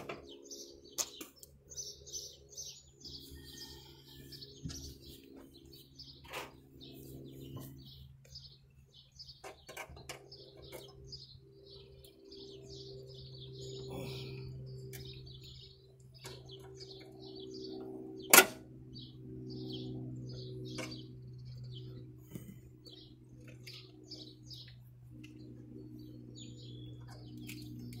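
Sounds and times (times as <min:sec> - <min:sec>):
small birds chirping: 0:00.0 - 0:28.0
steady low hum: 0:00.0 - 0:28.0.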